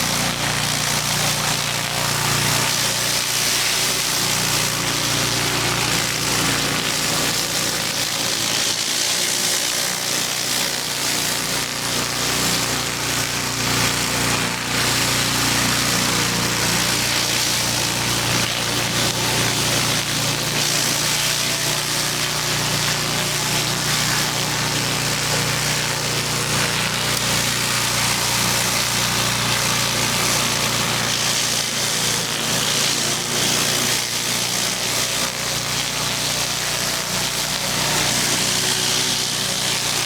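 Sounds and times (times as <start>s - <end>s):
high-pressure water spray hiss: 0.0s - 40.0s
pressure washer engine hum: 0.0s - 40.0s.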